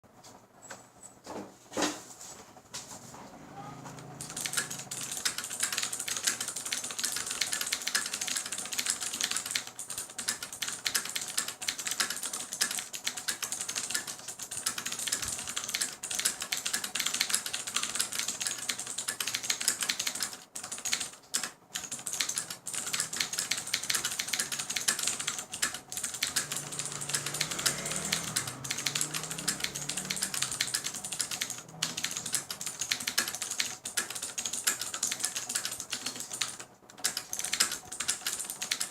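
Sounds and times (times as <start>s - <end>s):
mechanical keyboard typing: 4.0s - 38.9s.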